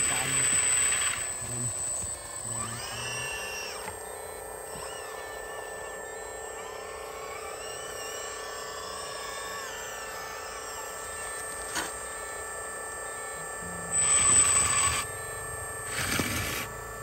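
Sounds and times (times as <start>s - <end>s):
hydraulic pump whine: 0.0s - 17.0s.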